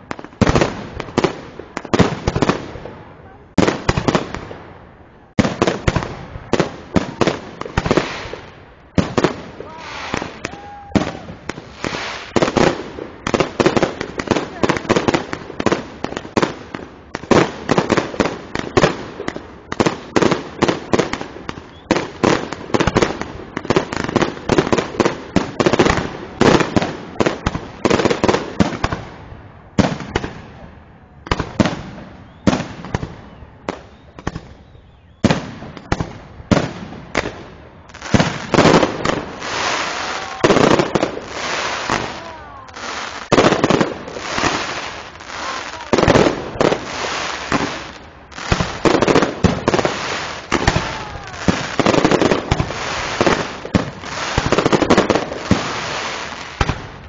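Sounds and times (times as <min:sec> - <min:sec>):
fireworks bursting with bangs: 0:00.0 - 0:57.0.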